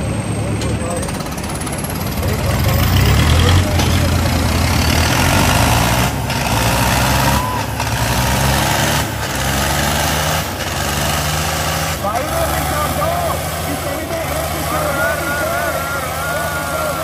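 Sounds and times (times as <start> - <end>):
tractor diesel engine at full load: 0.0 - 17.0.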